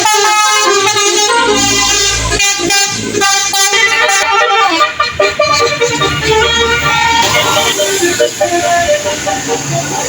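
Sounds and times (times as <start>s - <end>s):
bus air horns playing a tune: 0.0s - 10.0s.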